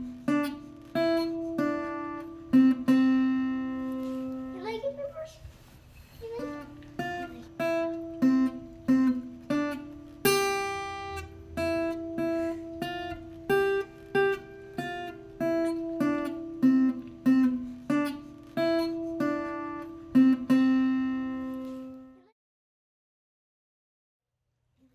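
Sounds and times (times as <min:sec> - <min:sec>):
acoustic guitar melody: 0:00.0 - 0:22.3.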